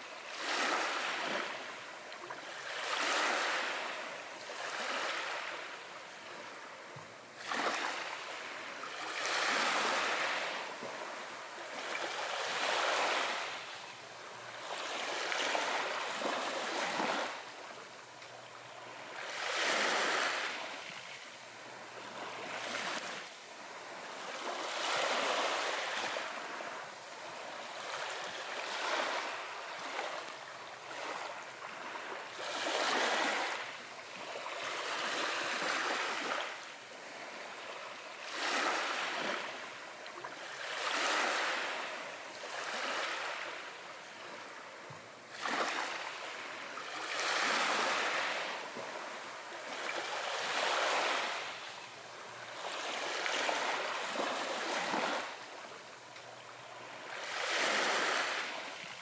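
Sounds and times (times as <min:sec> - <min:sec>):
waves washing on beach: 0:00.0 - 0:59.0.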